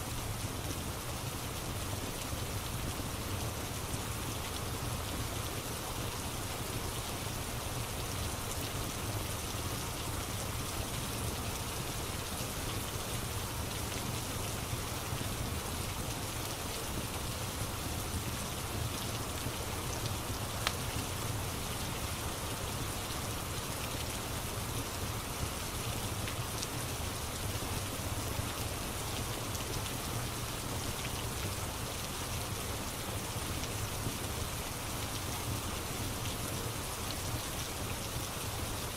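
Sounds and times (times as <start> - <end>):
rain hissing on a surface: 0.0 - 38.9.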